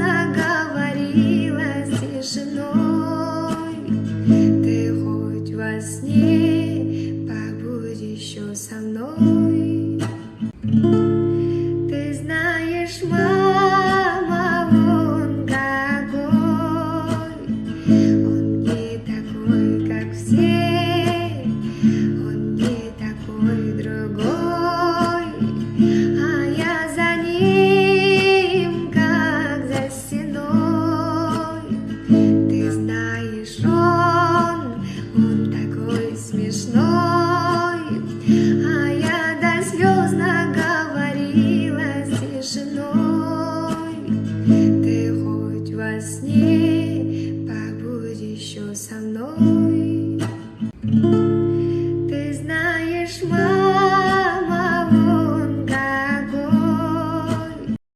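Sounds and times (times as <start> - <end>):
acoustic guitar playing: 0.0 - 57.8.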